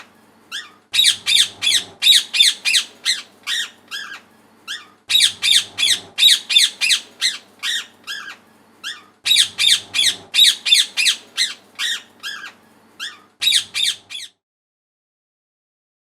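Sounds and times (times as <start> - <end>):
parrot squawking: 0.0 - 14.4.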